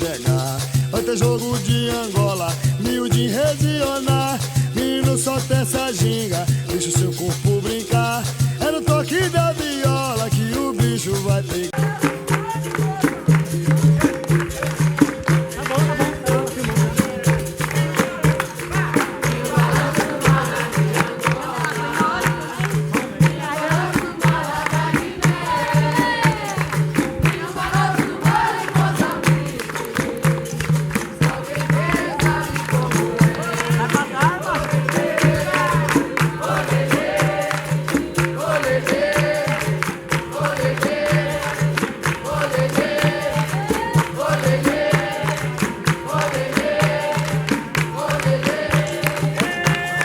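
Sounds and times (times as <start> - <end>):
group of voices singing: 0.0 - 50.0
percussion with steady beat: 0.0 - 50.0.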